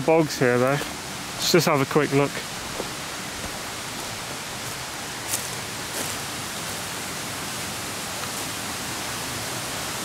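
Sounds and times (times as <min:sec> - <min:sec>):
brook water running: 0:00.0 - 0:10.0.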